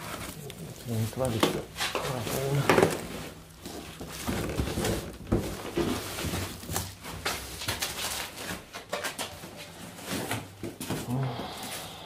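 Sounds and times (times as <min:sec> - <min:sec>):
cardboard rustling: 0:00.0 - 0:11.1.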